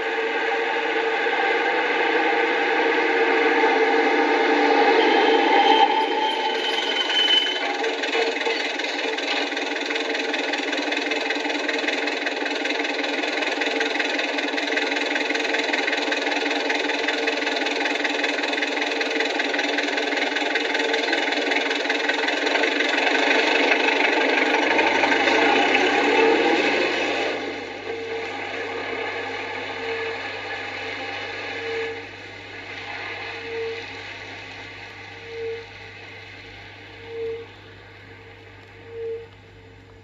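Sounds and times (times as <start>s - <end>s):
engine running with pulsing beat: 1.0s - 40.0s.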